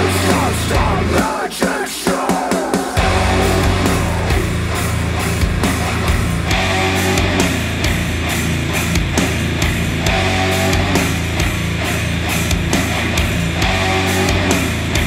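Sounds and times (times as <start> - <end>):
heavy rock music: 0.0 - 15.0.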